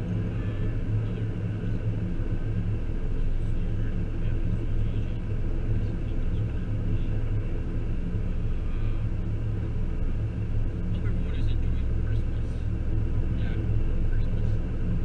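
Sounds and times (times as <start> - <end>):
engine hum: 0.0 - 15.0
road rumble inside car: 0.0 - 15.0.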